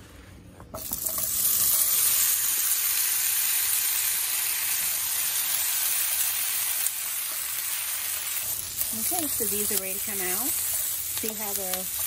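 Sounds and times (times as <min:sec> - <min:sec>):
vegetables sizzling in hot oil: 0:00.8 - 0:12.0.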